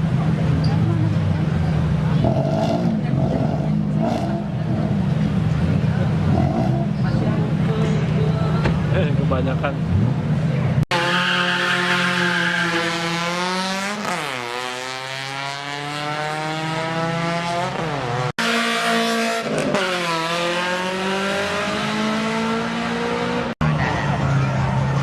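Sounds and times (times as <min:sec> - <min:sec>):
drag race car engine: 0:00.0 - 0:25.0.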